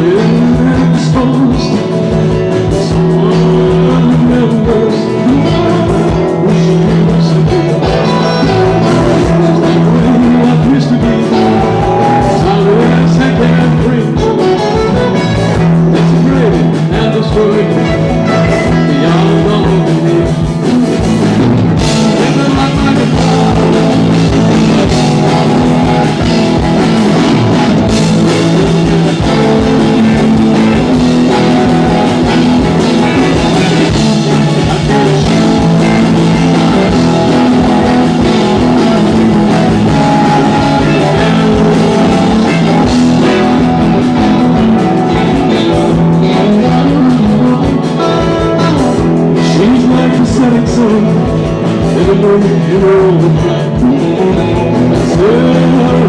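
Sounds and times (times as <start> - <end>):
electric guitar: 0.0 - 56.0
live rock band playing: 0.0 - 56.0
person singing: 0.0 - 56.0.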